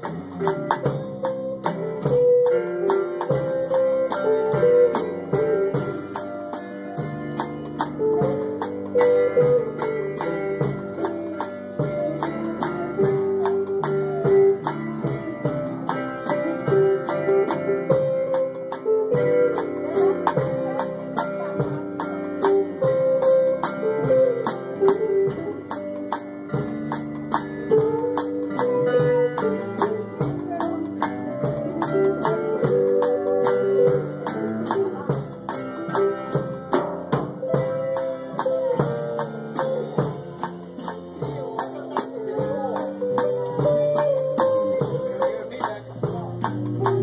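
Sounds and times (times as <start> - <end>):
guitar: 0.0 - 47.0
percussion beat: 0.0 - 47.0.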